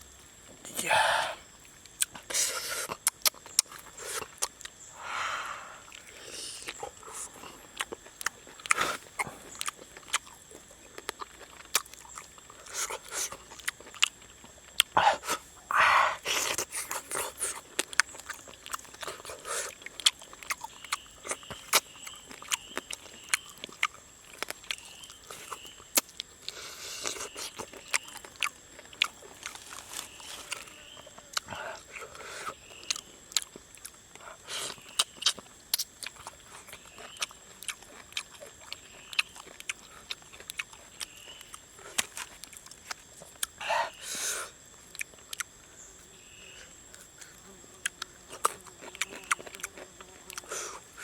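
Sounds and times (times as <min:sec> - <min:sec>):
person chewing and crunching: 0:00.2 - 0:04.9, 0:05.6 - 0:45.8, 0:46.8 - 0:51.0.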